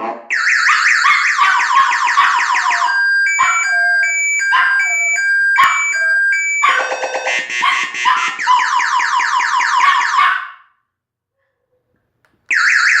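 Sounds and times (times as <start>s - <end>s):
motorcycle alarm siren: 0.3s - 10.3s, 12.5s - 13.0s.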